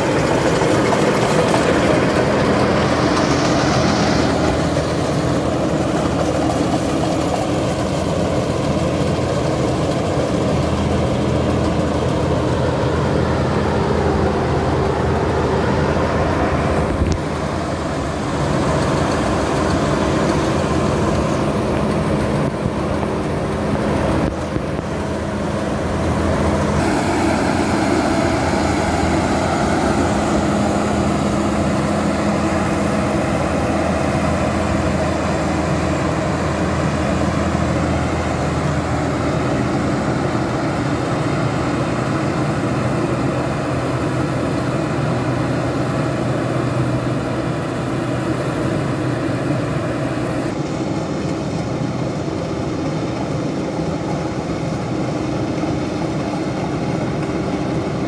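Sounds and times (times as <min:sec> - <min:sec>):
combine harvester engine drone: 0:00.0 - 0:58.0
threshing machinery noise: 0:00.0 - 0:58.0.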